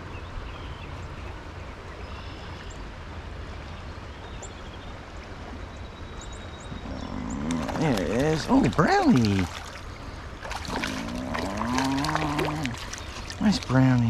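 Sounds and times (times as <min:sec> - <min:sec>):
shallow stream flowing: 0:00.0 - 0:14.0.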